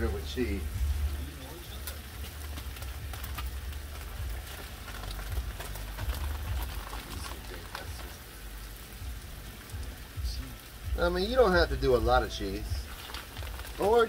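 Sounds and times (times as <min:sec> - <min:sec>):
low rumble: 0:00.0 - 0:13.8
food sizzling on a griddle: 0:00.0 - 0:14.0.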